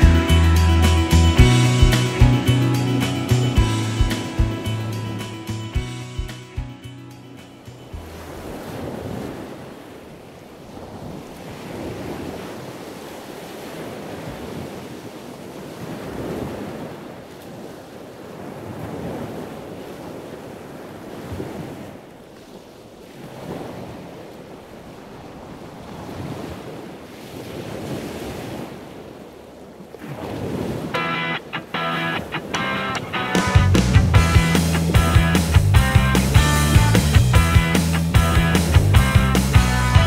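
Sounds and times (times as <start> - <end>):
sea waves washing: 0.0 - 40.0.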